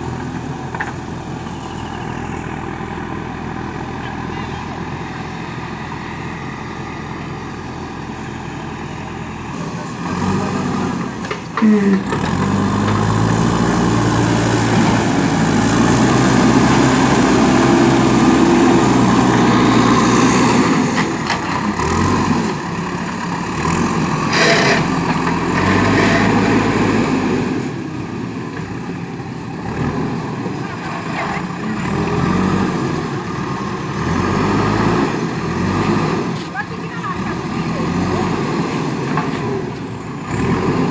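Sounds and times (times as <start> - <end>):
diesel engine revving: 0.0 - 40.9.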